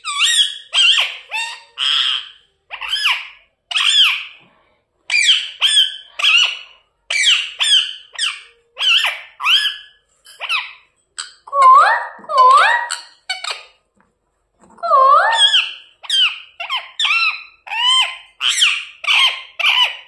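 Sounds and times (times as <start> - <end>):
parrot chirping and squawking: 0.0 - 4.4, 5.1 - 13.8, 14.7 - 20.0.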